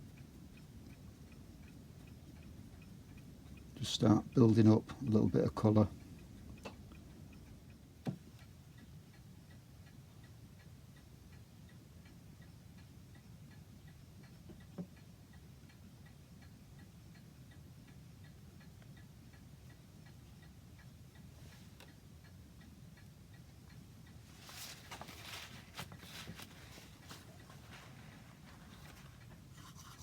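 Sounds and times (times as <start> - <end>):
clock ticking faintly: 0.0 - 30.0.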